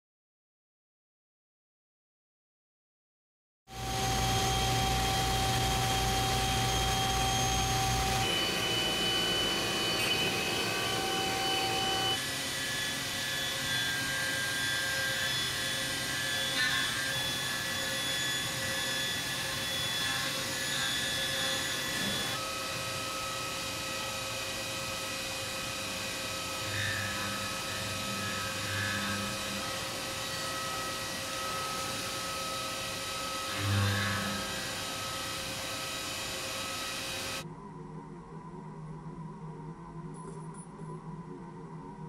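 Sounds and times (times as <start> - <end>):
milling machine whine: 3.7 - 37.4.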